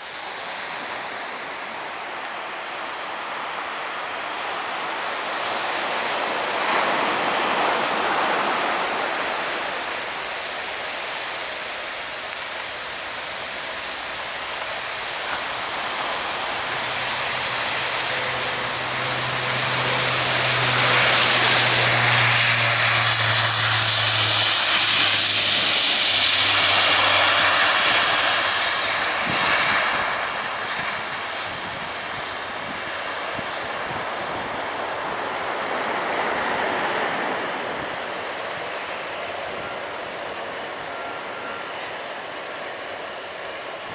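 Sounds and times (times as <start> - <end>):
aircraft engine passing overhead: 0.0 - 43.9.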